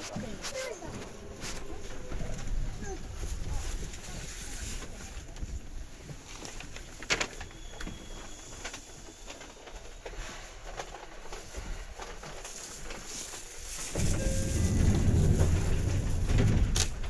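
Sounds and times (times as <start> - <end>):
low steady train hum: 0.0 - 17.0.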